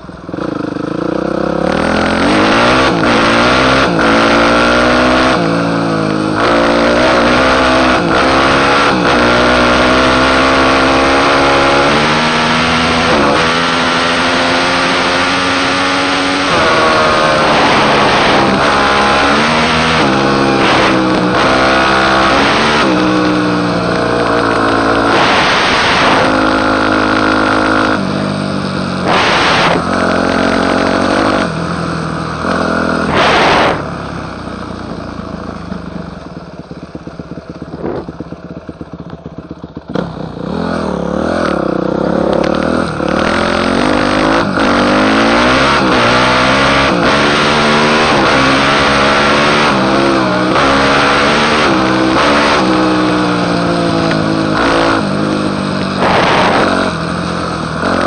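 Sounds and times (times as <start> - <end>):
dirt bike engine revving: 0.0 - 35.8, 37.2 - 58.0.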